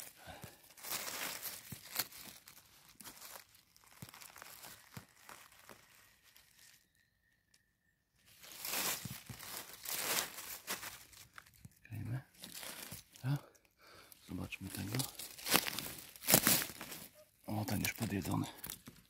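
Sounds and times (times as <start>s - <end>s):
dry leaves and twigs crackling: 0.0s - 19.0s.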